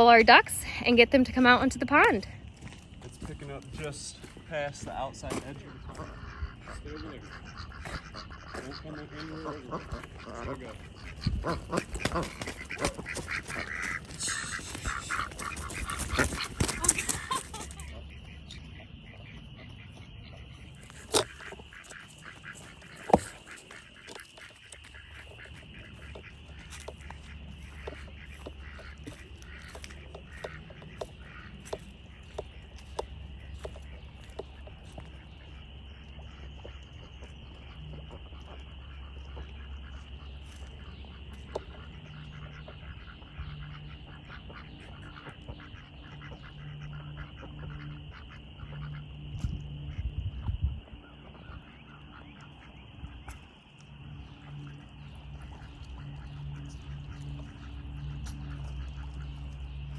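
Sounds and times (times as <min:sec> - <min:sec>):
ducks quacking: 0:00.0 - 0:59.9
high-pitched frog or insect chorus: 0:00.0 - 0:59.9.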